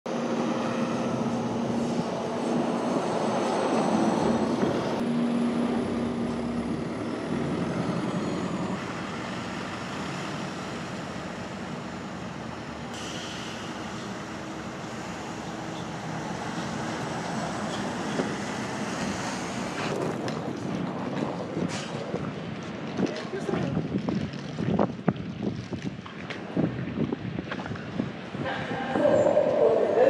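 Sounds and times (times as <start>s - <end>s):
passenger train rumble: 0.1s - 25.8s, 27.9s - 30.0s.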